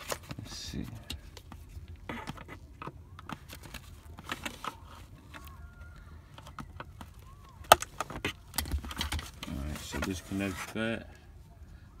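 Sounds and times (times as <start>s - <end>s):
wiring connector handled: 0.0s - 10.8s.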